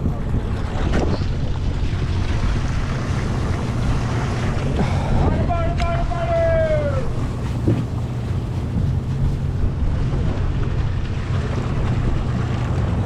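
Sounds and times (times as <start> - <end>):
boat engine hum: 0.0 - 13.0
sea water washing: 0.0 - 13.0
wind on microphone: 0.0 - 13.0.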